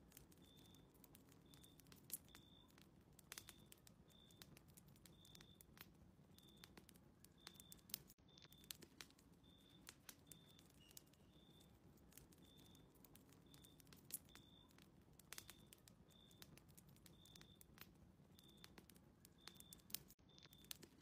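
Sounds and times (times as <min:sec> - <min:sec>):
fireplace crackling: 0:00.0 - 0:21.0.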